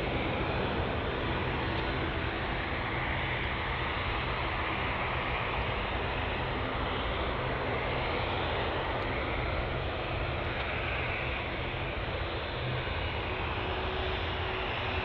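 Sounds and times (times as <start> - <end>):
jet engines at low power: 0.0 - 15.0.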